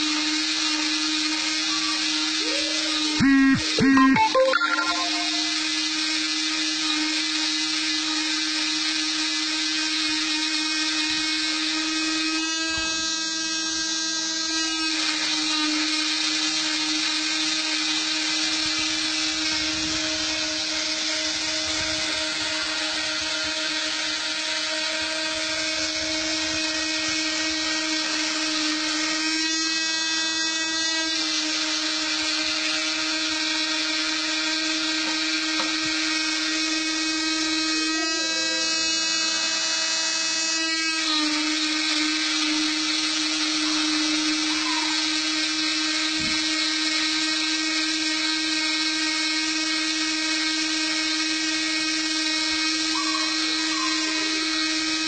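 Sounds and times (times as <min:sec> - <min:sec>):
cnc machine motor whine: 0:00.0 - 0:55.0.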